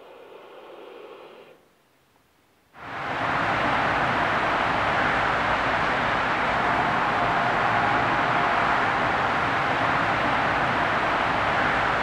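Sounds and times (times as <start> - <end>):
outdoor ambience rushing noise: 0.0 - 2.0, 2.8 - 12.0.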